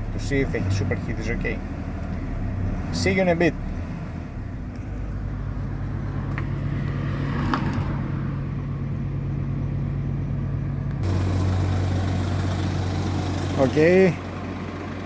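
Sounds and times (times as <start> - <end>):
truck refrigeration engine hum: 0.0 - 15.0.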